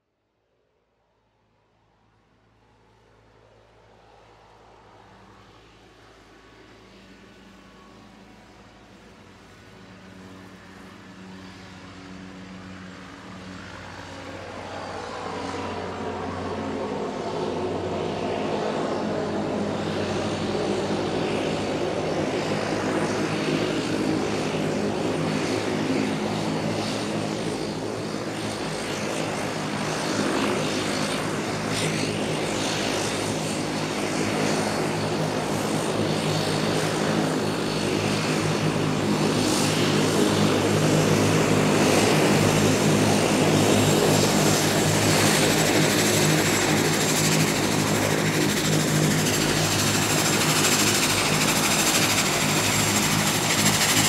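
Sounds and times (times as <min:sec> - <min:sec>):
airplane engine droning: 0:01.4 - 0:54.0.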